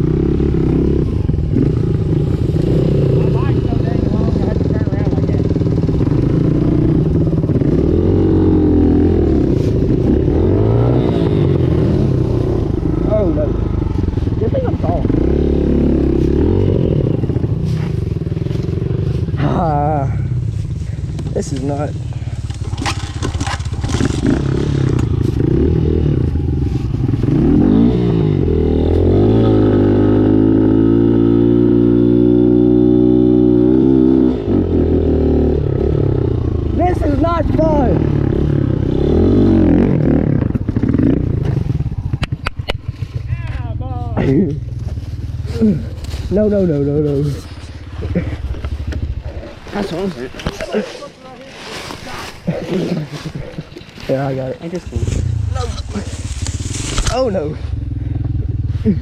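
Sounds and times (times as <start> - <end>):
dirt bike engine revving: 0.0 - 43.3, 43.9 - 59.0.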